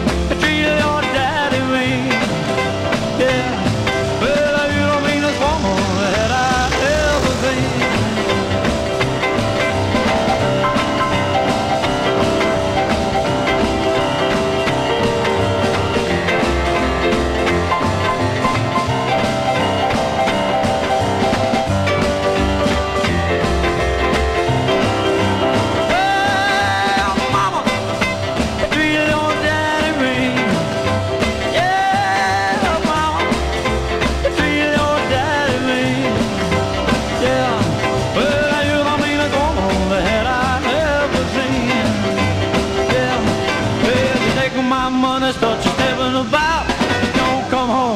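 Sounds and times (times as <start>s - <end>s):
rock and roll music: 0.0s - 47.9s
steady drum beat: 0.0s - 47.9s.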